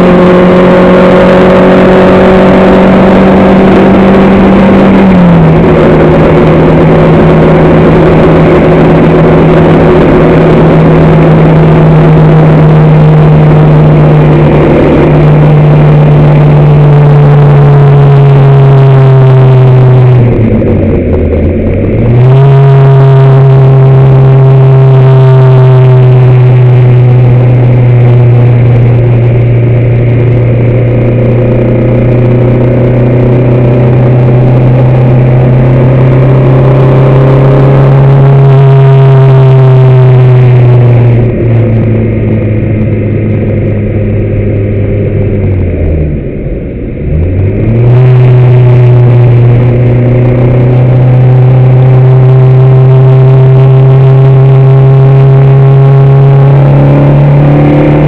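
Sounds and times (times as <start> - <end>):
race engine at high revs: 0.0 - 58.0.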